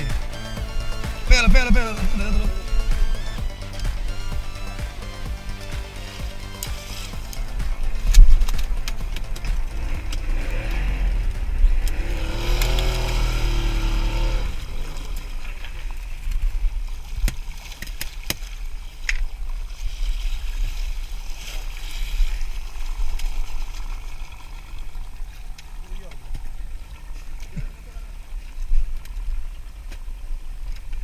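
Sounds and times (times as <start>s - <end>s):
outboard motor rumbling: 0.0s - 31.0s
water noise: 0.0s - 31.0s.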